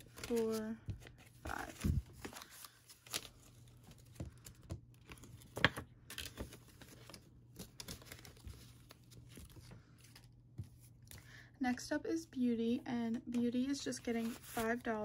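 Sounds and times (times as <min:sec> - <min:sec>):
paper banknotes rustling: 0:00.0 - 0:11.3, 0:13.9 - 0:15.0.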